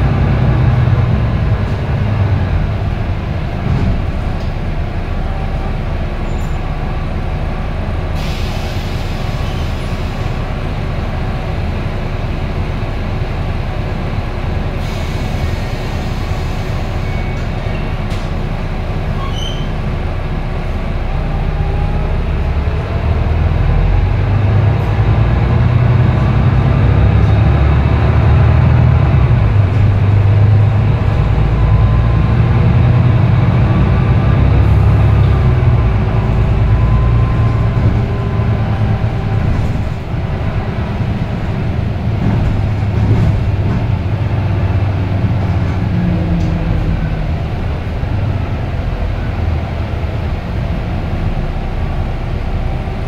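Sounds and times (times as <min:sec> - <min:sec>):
bus diesel engine under load: 0:00.0 - 0:53.0.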